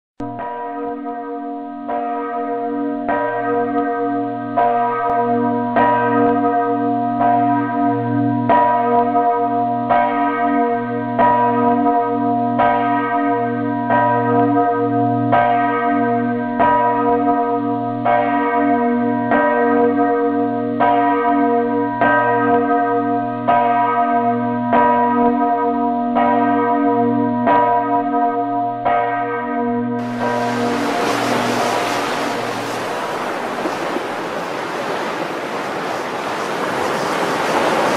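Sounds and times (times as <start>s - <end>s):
church bell tolling: 0.2s - 37.9s.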